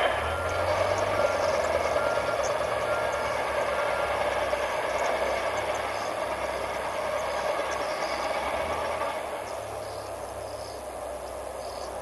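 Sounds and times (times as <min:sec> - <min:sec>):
outdoor background rumble and hiss: 0:00.0 - 0:12.0.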